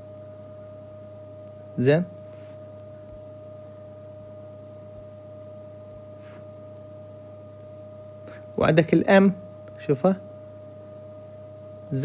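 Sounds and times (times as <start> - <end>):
electrical whine: 0.0 - 12.0
low electrical hum: 0.0 - 12.0.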